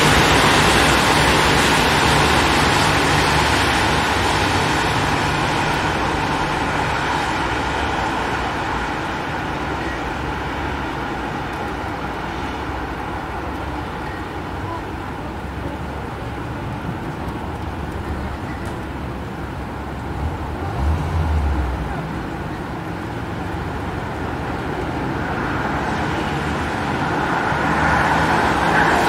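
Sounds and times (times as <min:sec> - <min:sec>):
road traffic rush: 0:00.0 - 0:29.0.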